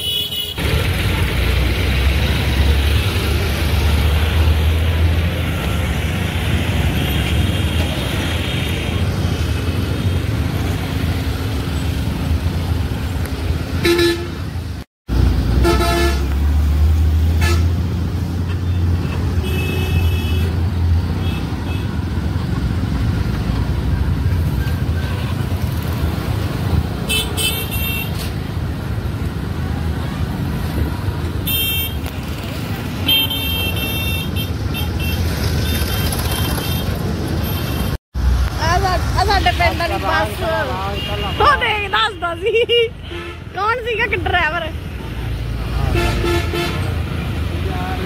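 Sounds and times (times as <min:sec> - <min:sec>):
vehicle road rumble: 0:00.0 - 0:48.0.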